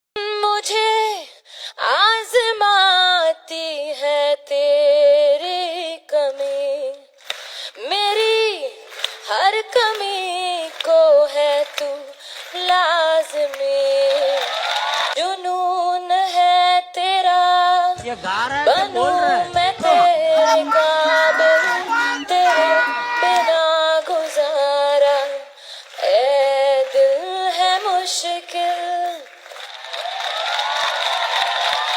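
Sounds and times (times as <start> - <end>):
woman singing unaccompanied: 0.2 - 29.5.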